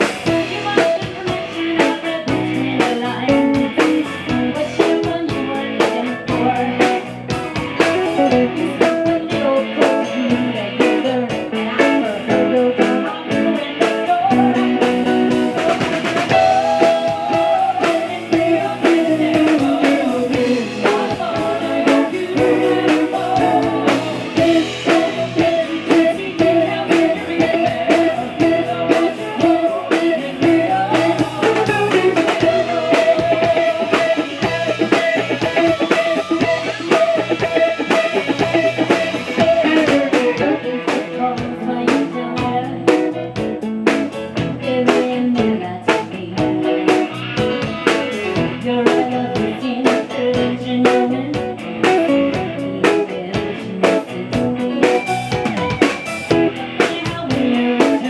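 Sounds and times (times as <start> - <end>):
blues-rock guitar: 0.0 - 58.0
drum kit beat: 0.0 - 58.0
person singing: 0.0 - 58.0.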